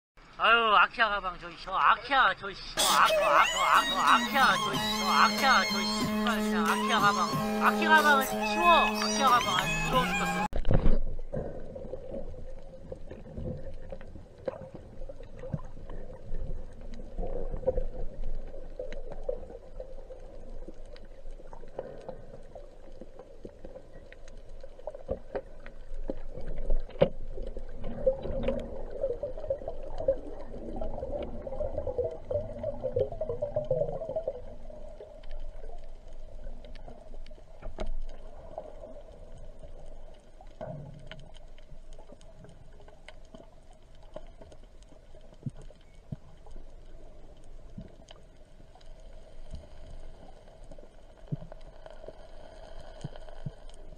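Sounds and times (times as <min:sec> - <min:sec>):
muffled underwater movement: 0:01.3 - 0:53.9.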